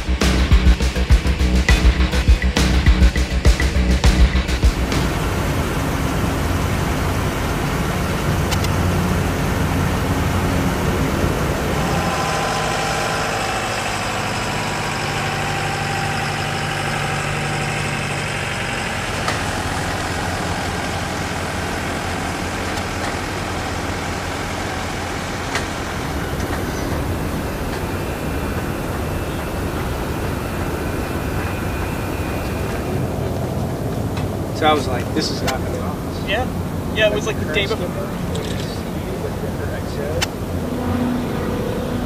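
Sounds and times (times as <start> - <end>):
low engine rumble: 0.0 - 42.0
turbofan engine whine: 0.0 - 42.0.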